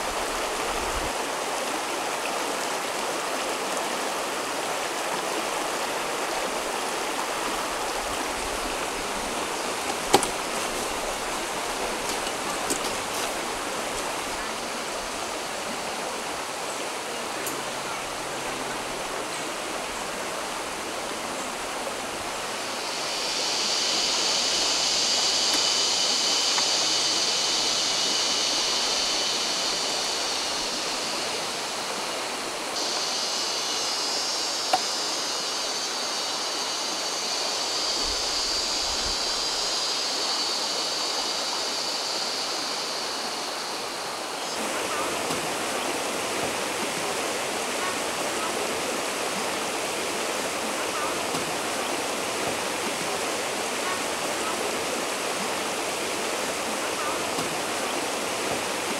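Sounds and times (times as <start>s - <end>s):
higher hiss: 0.0s - 58.9s
stream running over rocks: 0.0s - 58.9s.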